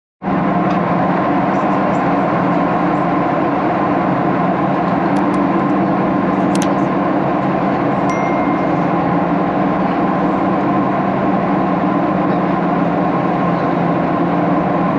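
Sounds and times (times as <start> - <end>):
airplane cabin drone: 0.4 - 14.9.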